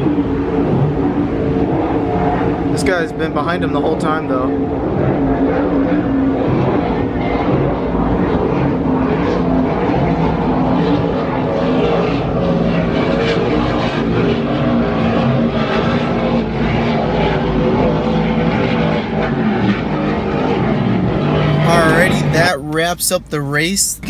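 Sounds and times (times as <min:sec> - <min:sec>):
powerboat engines running: 0:00.0 - 0:24.0.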